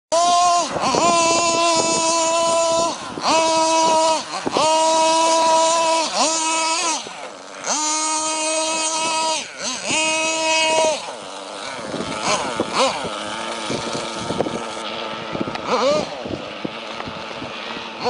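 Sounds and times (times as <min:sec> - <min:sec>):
small two-stroke engine screaming: 0:00.1 - 0:18.0.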